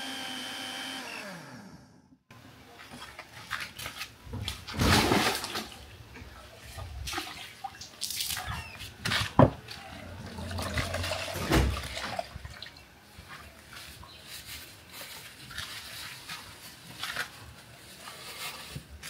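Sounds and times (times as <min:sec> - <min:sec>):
water sloshing and splashing: 0:02.6 - 0:19.0.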